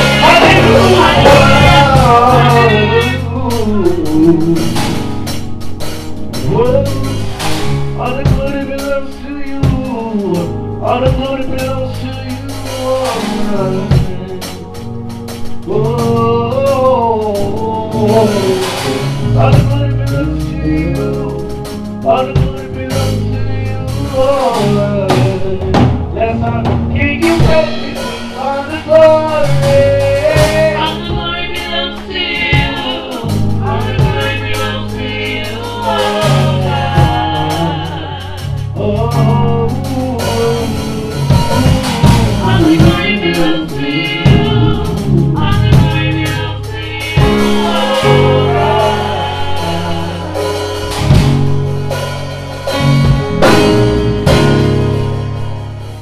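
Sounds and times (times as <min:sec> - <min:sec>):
gospel choir singing: 0:00.0 - 0:55.0
drums: 0:00.0 - 0:56.0
instrumental backing: 0:00.0 - 0:56.0.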